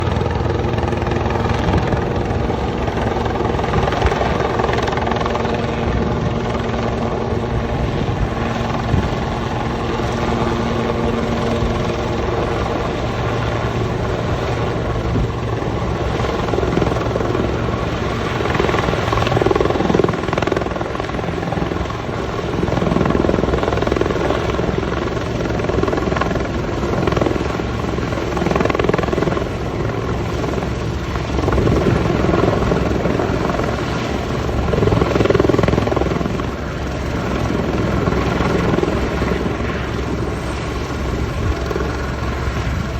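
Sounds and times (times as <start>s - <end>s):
helicopter whine and rotor hum: 0.0s - 42.9s.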